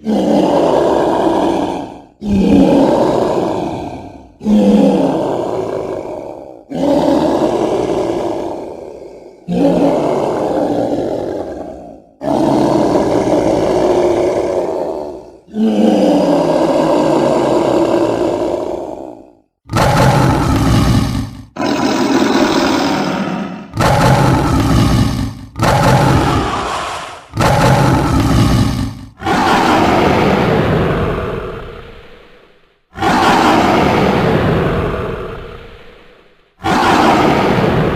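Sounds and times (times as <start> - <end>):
dinosaur roars: 0.0 - 37.9.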